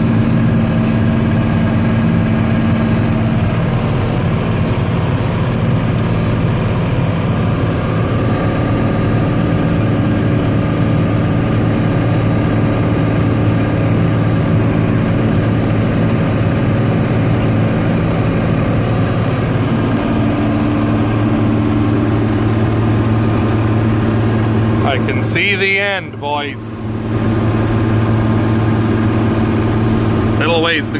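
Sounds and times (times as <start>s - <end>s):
combine harvester drone: 0.0s - 30.9s.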